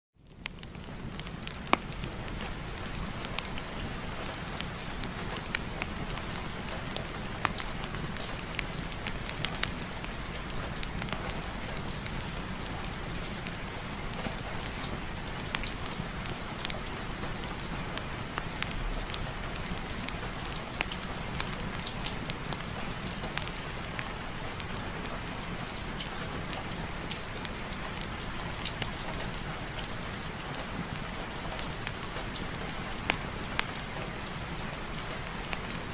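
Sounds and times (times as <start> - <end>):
steady rain falling: 0.2 - 35.9
wood fire crackling: 0.2 - 35.9.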